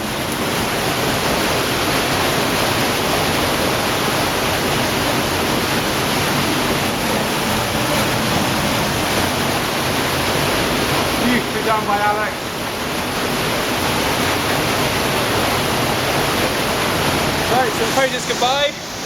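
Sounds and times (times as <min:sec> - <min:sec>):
stream rushing and splashing: 0:00.0 - 0:19.0.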